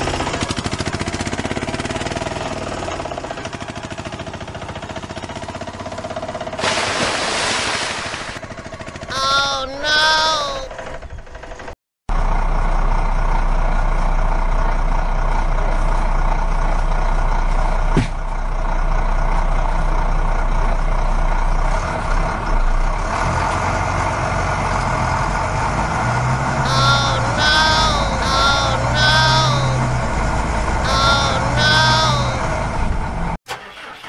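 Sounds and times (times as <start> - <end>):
heavy truck engine running: 0.0 - 6.6, 8.4 - 9.1, 10.7 - 34.0.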